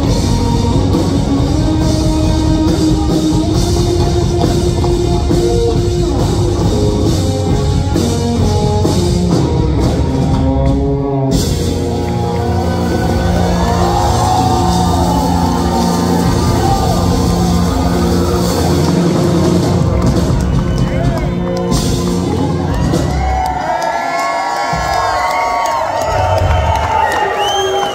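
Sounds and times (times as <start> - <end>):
electric guitar: 0.0 - 23.2
electric bass: 0.0 - 23.3
drum kit with cymbals: 0.0 - 23.4.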